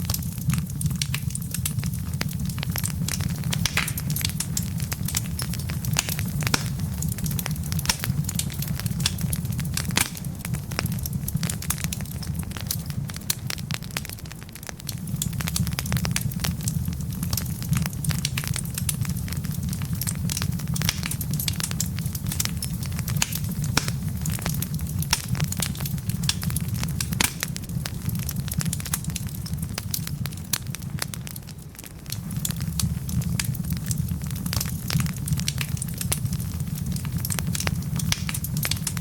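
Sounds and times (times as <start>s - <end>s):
low fire rumble: 0.0s - 39.0s
wood fire crackling and popping: 0.0s - 39.0s.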